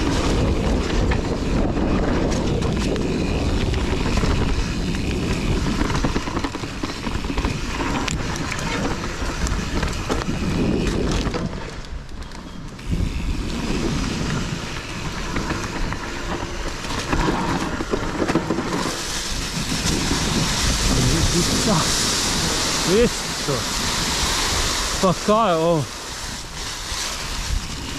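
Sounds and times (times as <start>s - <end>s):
bike rattling: 0.0s - 27.9s
bike tyres rolling over rough ground: 0.0s - 27.9s.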